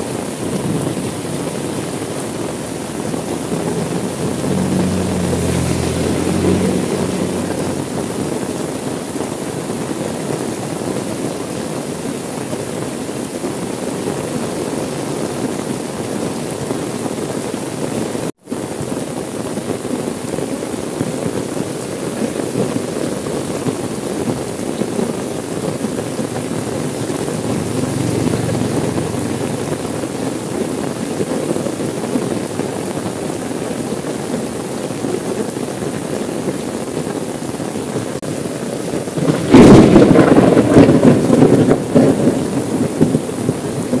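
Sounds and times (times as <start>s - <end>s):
heavy rain on car roof: 0.0s - 44.0s.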